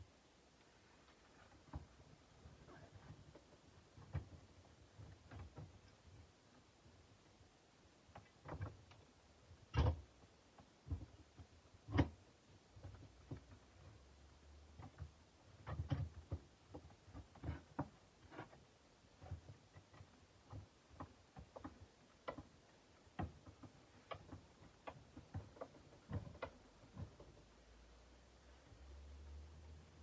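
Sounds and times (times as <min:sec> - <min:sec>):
faint clicks and light taps: 0:00.5 - 0:30.0.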